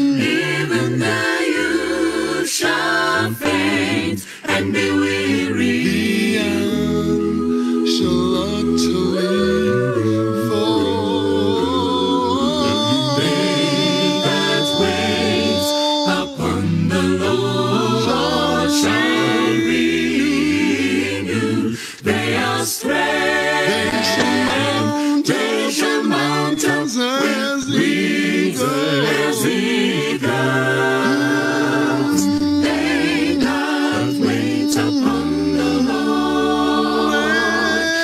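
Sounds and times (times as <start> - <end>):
a cappella voices singing: 0.0 - 38.0.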